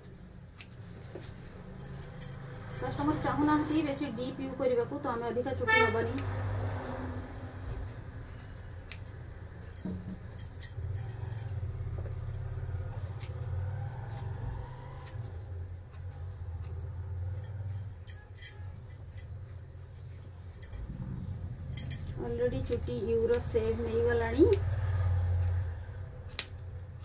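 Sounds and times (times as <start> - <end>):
scissors snipping hair: 0.0 - 0.9, 1.9 - 19.4, 21.8 - 27.0.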